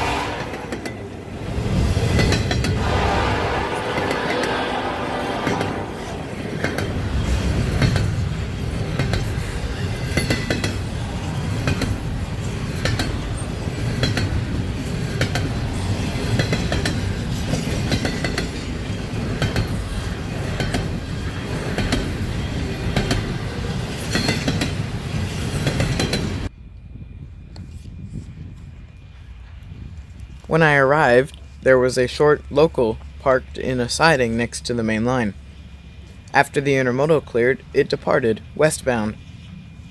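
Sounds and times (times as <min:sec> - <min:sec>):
freight train rumbling: 0:00.0 - 0:39.9.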